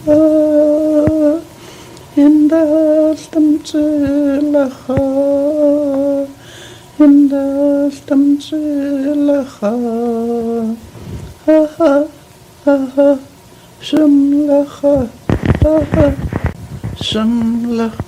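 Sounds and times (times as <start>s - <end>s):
person humming: 0.0s - 1.5s, 2.2s - 18.0s.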